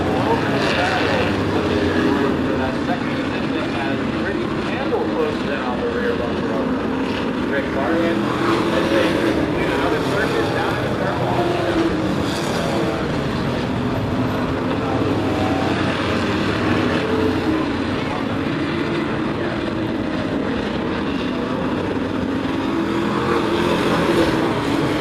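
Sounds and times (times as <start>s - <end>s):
race truck engines running hard: 0.0s - 25.0s.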